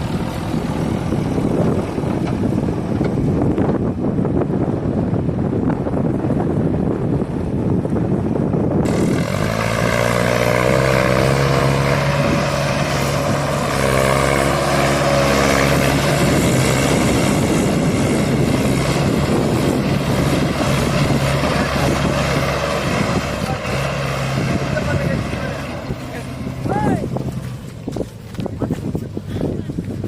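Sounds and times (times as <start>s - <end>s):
heavy diesel engine running: 0.0s - 30.0s
wind noise: 0.0s - 30.0s.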